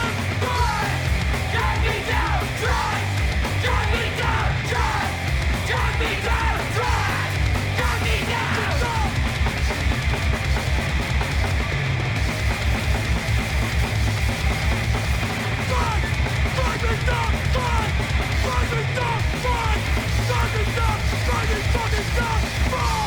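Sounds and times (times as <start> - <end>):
hardcore punk music: 0.0 - 23.0.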